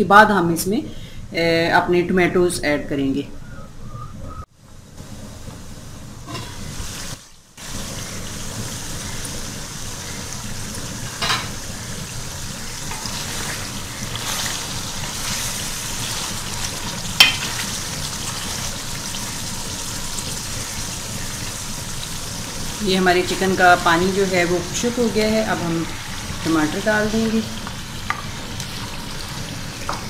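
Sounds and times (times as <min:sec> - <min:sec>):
chicken sizzling in oil: 0:05.2 - 0:30.0.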